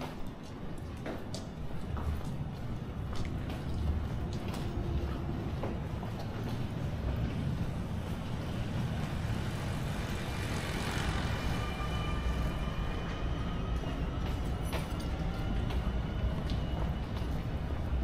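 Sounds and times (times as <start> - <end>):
low rumble of vehicle traffic: 1.9 - 18.0.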